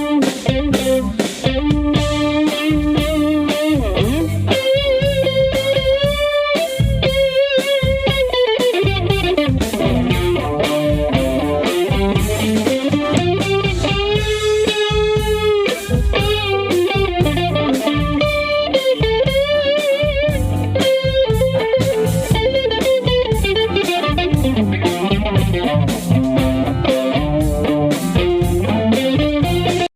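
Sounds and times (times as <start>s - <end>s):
bass: 0.0s - 29.9s
electric guitar lead with vibrato: 0.0s - 29.9s
steady drum beat: 0.0s - 29.9s.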